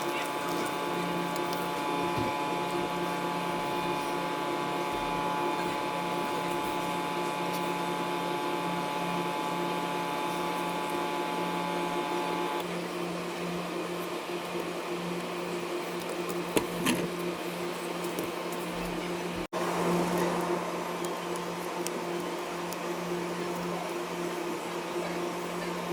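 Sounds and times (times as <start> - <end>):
electric motor humming: 0.0 - 25.9.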